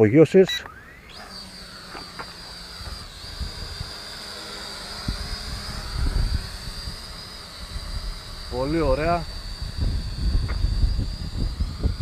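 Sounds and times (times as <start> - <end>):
quadcopter propellers whining: 0.0 - 12.0
wind buffeting microphone: 1.0 - 12.0.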